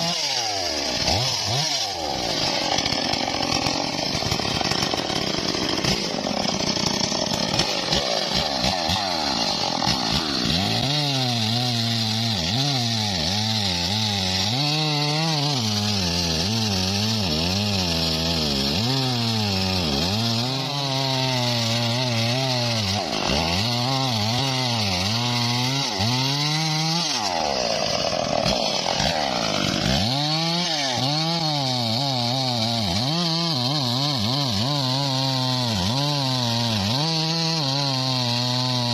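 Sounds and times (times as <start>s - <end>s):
saw hissing through log: 0.0s - 35.9s.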